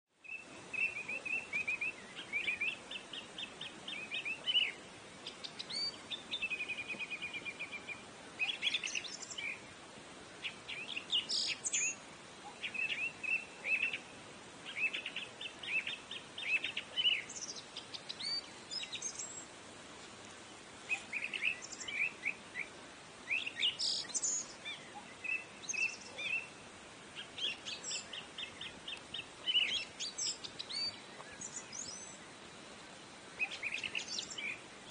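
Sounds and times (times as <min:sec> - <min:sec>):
faint steady hiss: 0:00.1 - 0:34.9
songbirds chirping: 0:00.1 - 0:34.9.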